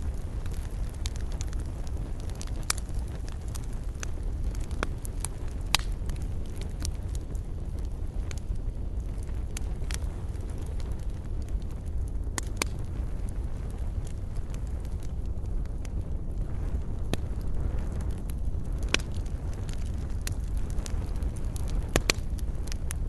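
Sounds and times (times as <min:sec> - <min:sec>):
campfire crackling and popping: 0:00.0 - 0:23.0
fire low rumble: 0:00.0 - 0:23.0.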